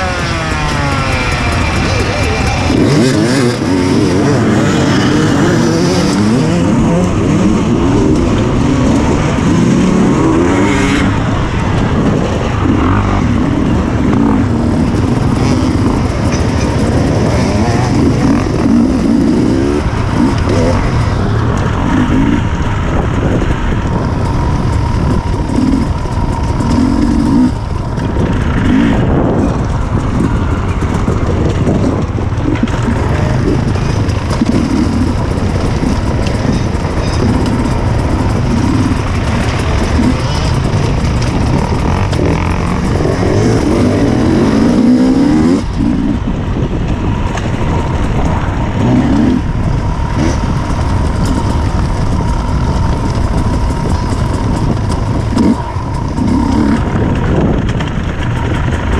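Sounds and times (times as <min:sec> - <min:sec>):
dirt bike engines revving: 0:00.0 - 0:58.9.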